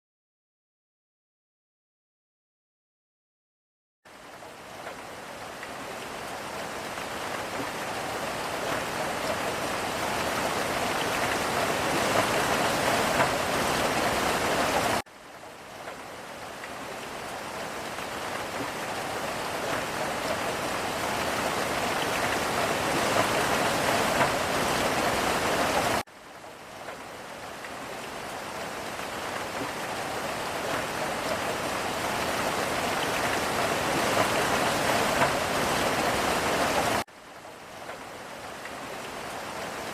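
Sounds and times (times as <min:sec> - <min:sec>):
rain pattering: 0:04.1 - 0:39.9.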